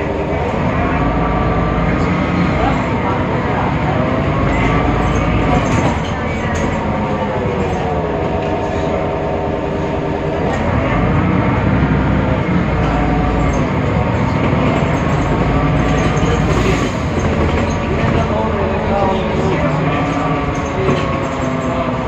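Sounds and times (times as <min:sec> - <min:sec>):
bus drivetrain whining: 0:00.0 - 0:22.0.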